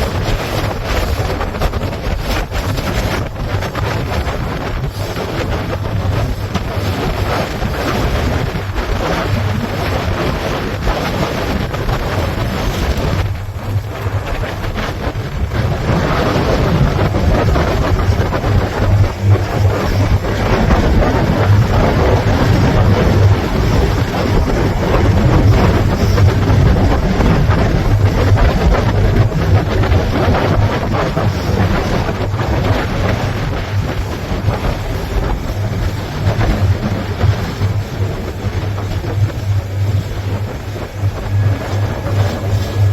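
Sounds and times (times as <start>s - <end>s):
boat engine running: 0.0s - 42.9s
wind rumbling on microphone: 0.0s - 42.9s.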